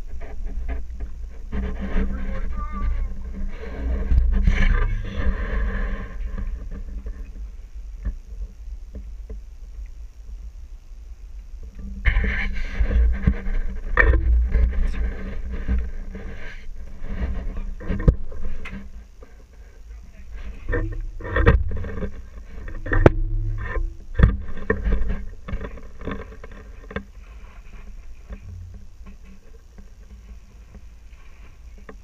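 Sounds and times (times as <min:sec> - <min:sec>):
off-road vehicle engine working: 0:00.0 - 0:09.4, 0:11.6 - 0:32.0.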